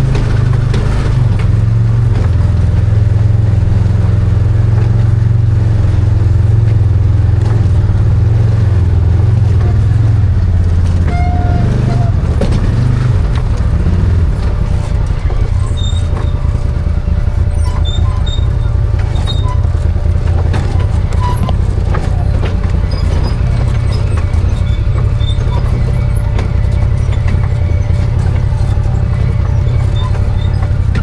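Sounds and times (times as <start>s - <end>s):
rattles and knocks: 0.0s - 31.0s
vehicle engine running: 0.0s - 31.0s.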